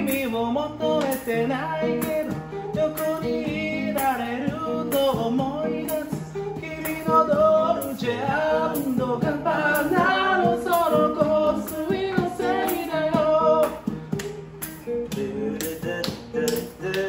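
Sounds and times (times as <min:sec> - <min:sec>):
guitar accompaniment: 0:00.0 - 0:17.0
person singing: 0:00.0 - 0:17.0
steady tapping beat: 0:00.0 - 0:17.0.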